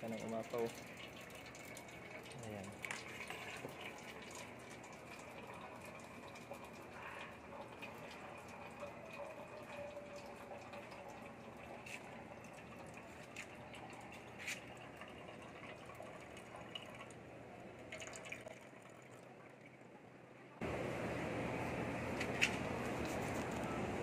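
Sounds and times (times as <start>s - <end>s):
water trickling and dripping: 0.0s - 17.2s, 17.8s - 19.8s.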